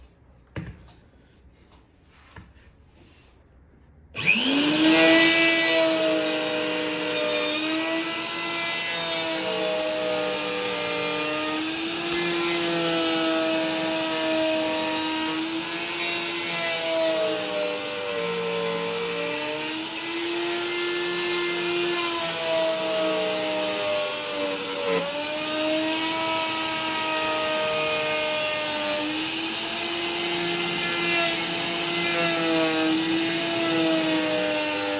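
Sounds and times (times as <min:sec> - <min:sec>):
wood router whining: 0:04.2 - 0:34.9.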